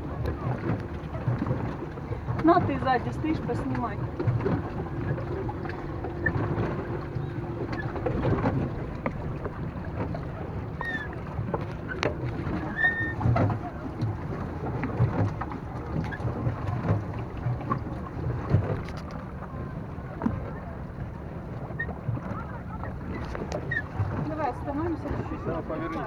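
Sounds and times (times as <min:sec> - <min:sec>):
water splashing against hull: 0:00.0 - 0:26.0.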